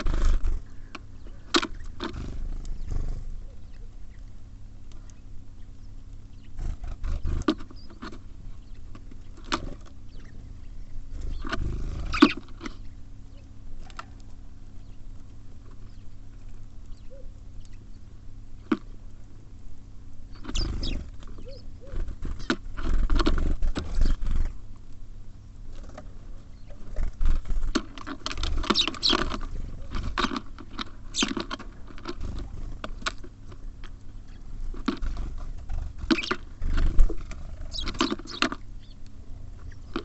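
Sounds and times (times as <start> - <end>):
birds pecking on feeder: 0.0 - 40.0.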